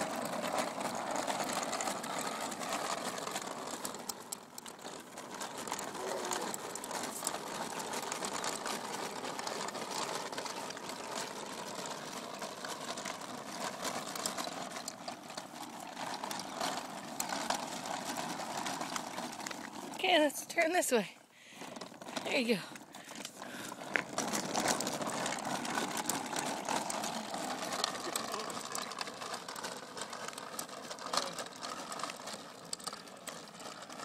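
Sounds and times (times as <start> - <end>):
small wheels rattling on asphalt: 0.0 - 34.0.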